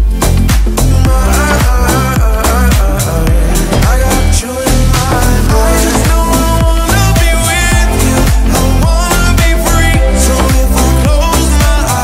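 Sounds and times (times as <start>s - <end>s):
electronic dance-pop music: 0.0s - 12.0s.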